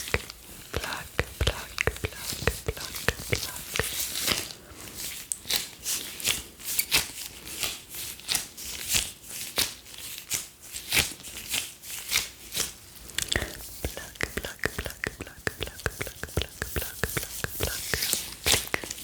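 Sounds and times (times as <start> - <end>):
gloves rubbing and crinkling: 0.0 - 19.0.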